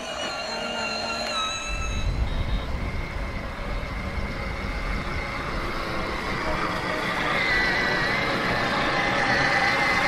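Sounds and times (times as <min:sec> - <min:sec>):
toy car low rumble: 0:00.0 - 0:10.0
toy car motor whine: 0:00.0 - 0:10.0.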